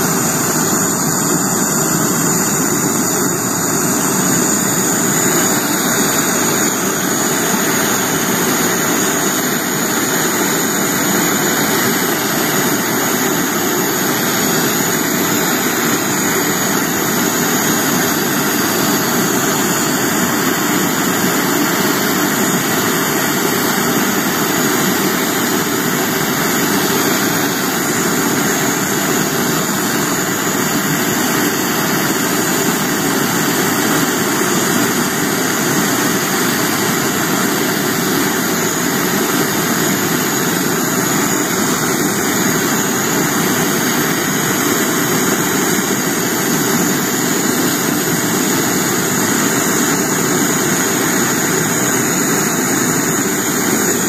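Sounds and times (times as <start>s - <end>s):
torch flame hissing: 0.0s - 54.0s.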